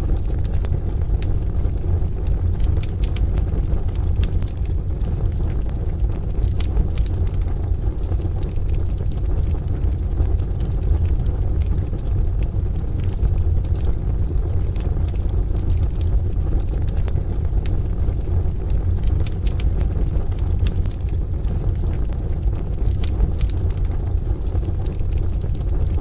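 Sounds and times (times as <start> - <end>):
rain rumbling: 0.0 - 26.0
wood fire crackling and popping: 0.0 - 26.0.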